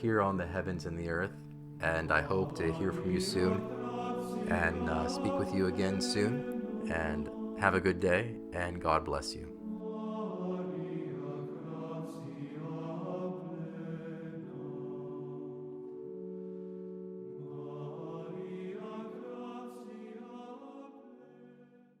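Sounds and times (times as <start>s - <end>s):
choral chant: 0.0s - 22.0s.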